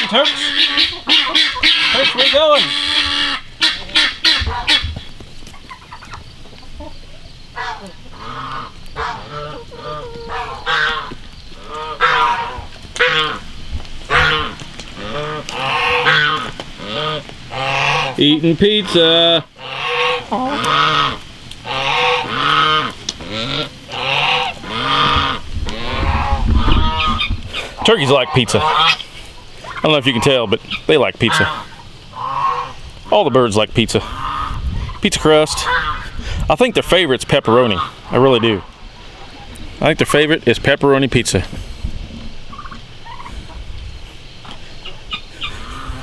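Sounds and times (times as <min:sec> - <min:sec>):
geese honking: 0:00.0 - 0:46.0.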